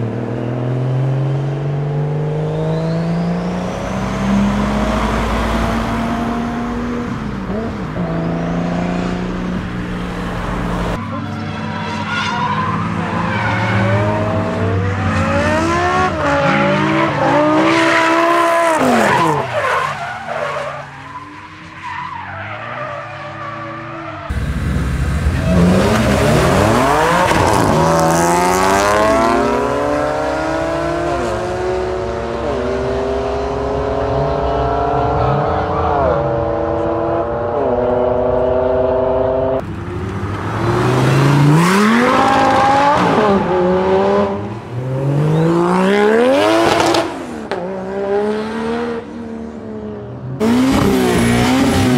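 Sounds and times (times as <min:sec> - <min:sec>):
car engine revving: 0:00.0 - 0:20.2, 0:24.3 - 0:49.1, 0:50.4 - 0:51.9
tyres skidding: 0:00.0 - 0:48.7.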